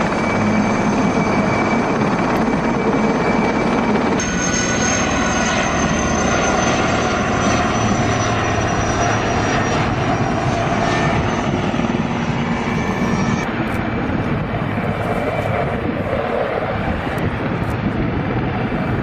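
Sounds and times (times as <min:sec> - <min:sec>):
helicopter flying past: 0:00.0 - 0:19.0
high turbine whine: 0:00.0 - 0:19.0.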